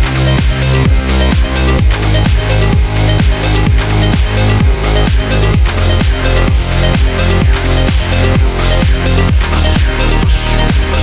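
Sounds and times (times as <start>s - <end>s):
electronic dance music: 0.0s - 11.0s
kick drum: 0.0s - 11.0s
sustained bass line: 0.0s - 11.0s.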